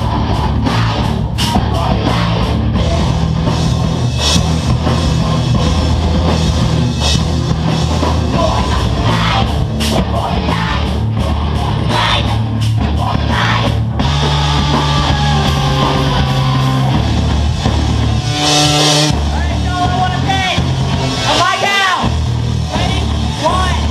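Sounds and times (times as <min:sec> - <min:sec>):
bass guitar: 0:00.0 - 0:23.9
distorted electric guitars: 0:00.0 - 0:23.9
drum kit: 0:00.0 - 0:23.9.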